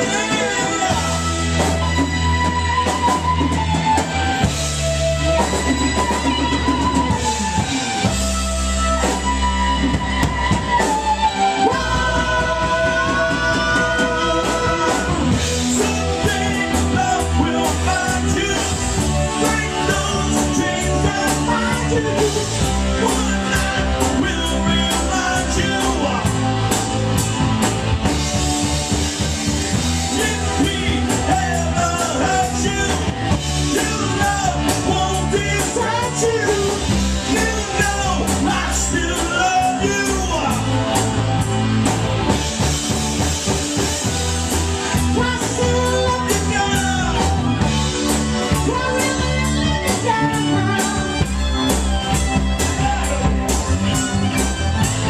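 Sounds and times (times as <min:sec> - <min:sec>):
rock song with singer: 0:00.0 - 0:55.0.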